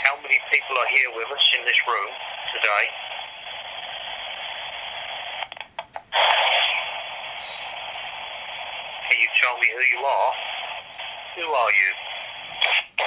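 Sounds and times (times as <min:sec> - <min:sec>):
white-noise static: 0:00.0 - 0:13.0.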